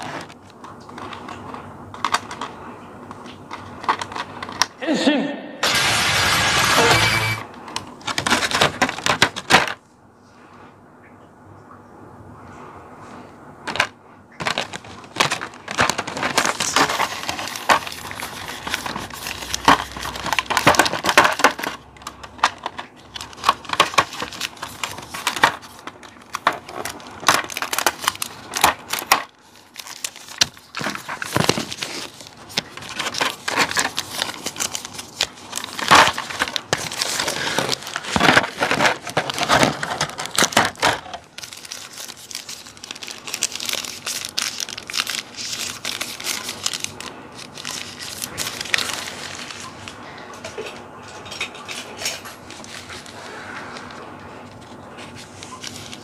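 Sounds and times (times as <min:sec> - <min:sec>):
plastic packaging crinkling: 0:00.0 - 0:04.8, 0:06.8 - 0:09.8, 0:13.6 - 0:56.0.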